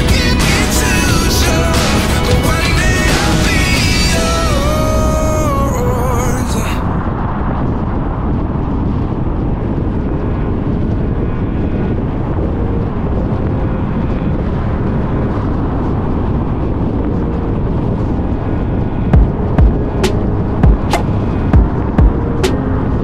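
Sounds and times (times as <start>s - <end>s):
car tyre and wind noise: 0.0s - 23.0s.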